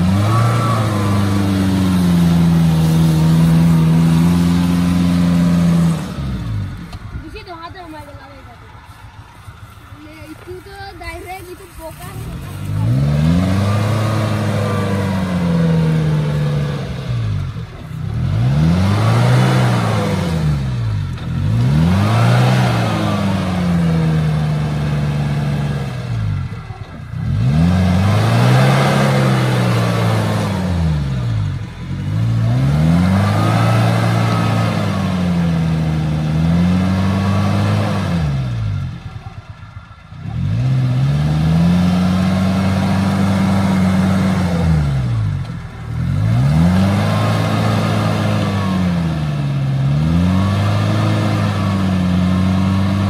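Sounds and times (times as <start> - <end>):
car engine revving off-road: 0.0 - 53.0.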